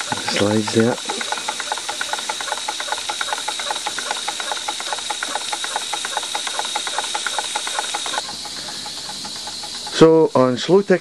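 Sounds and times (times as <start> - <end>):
steam hiss: 0.0 - 11.0
toy steam engine ticking: 0.0 - 11.0.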